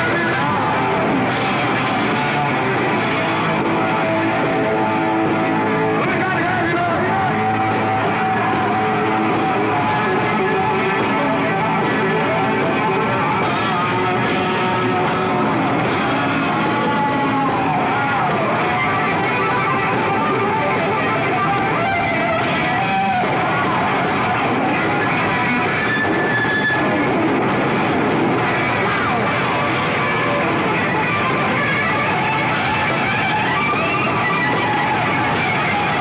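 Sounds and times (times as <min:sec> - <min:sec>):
drums: 0:00.0 - 0:36.0
electric guitar lead: 0:00.0 - 0:36.0
rhythm guitar: 0:00.0 - 0:36.0.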